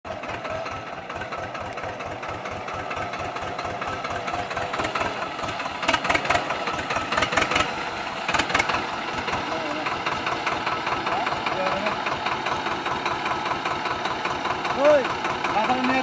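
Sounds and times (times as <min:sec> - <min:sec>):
tractor diesel engine thudding: 0:00.1 - 0:16.0.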